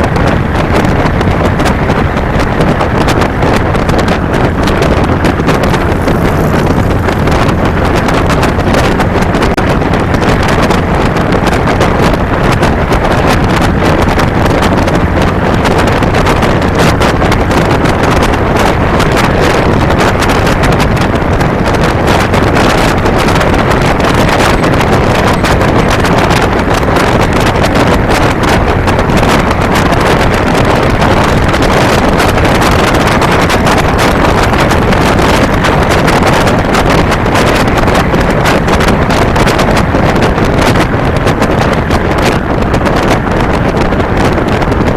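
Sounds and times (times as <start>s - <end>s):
motorcycle engine running: 0.0s - 44.9s
wind buffeting on microphone: 0.0s - 44.9s.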